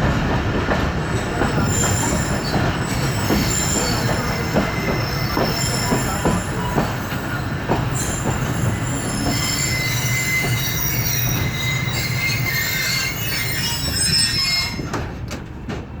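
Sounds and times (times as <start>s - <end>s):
train low rumble: 0.0s - 16.0s
train wheels and brakes squealing: 1.0s - 15.3s.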